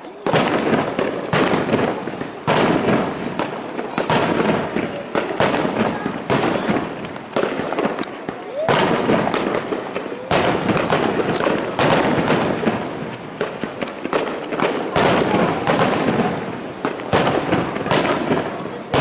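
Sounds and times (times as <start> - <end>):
fireworks booming: 0.0 - 19.0
fireworks crackling and rumble: 0.0 - 19.0.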